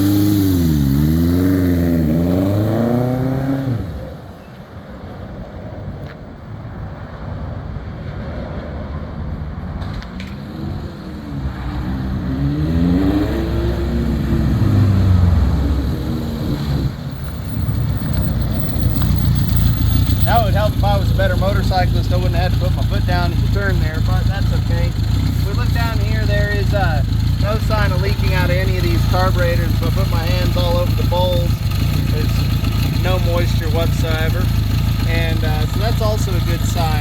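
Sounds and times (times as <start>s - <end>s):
motorcycle engine revving: 0.0s - 4.2s, 10.2s - 37.0s.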